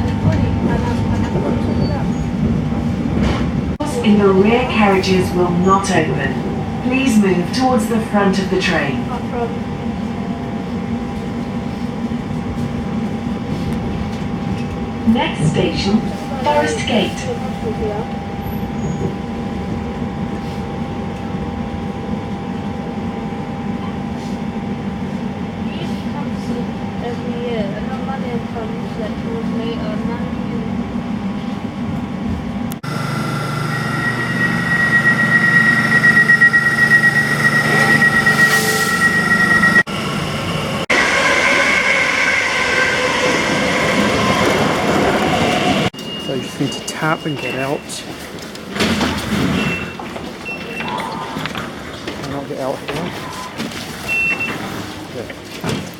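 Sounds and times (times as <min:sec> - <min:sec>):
train rumble inside carriage: 0:00.0 - 0:55.9.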